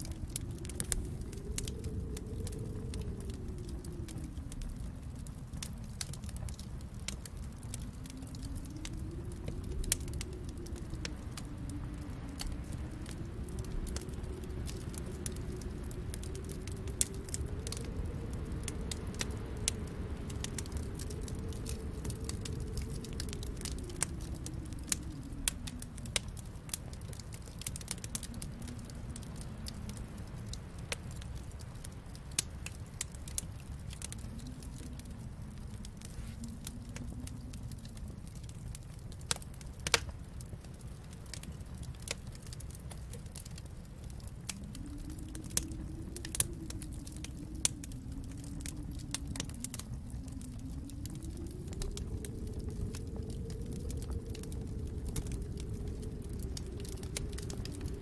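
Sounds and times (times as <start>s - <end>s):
low steady rumble: 0.0s - 58.0s
wood fire crackling and popping: 0.0s - 58.0s.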